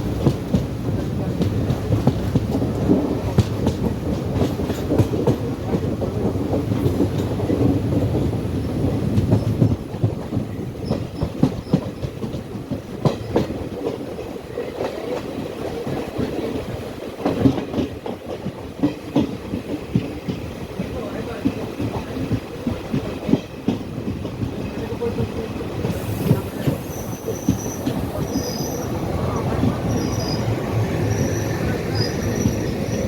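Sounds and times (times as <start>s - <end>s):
train low rumble: 0.0s - 33.0s
train wheels clacking on rails: 0.0s - 33.0s.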